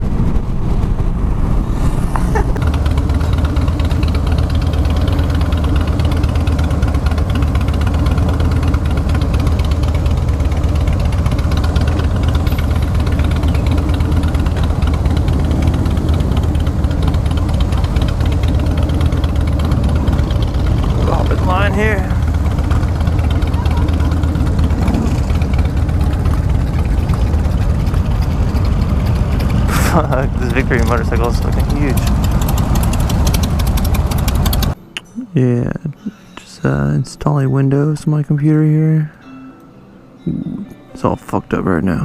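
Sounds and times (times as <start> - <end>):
motorcycle engine droning: 0.0 - 42.0.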